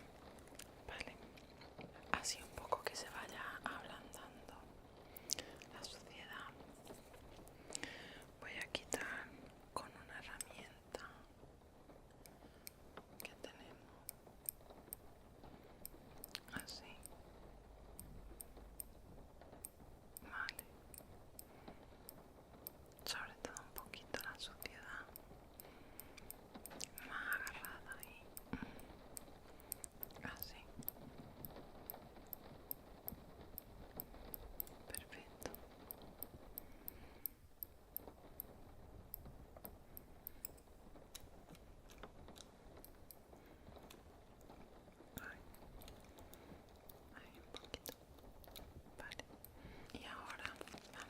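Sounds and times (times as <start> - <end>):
faint steady rain: 0.0 - 51.0.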